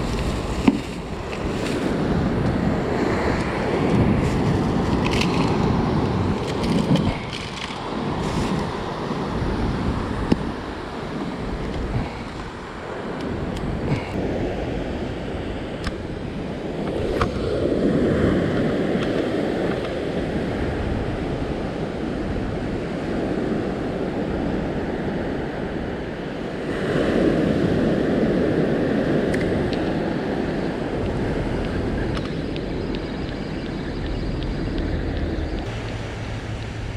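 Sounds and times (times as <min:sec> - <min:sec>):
waves breaking on beach: 0:00.0 - 0:33.3, 0:35.6 - 0:36.9.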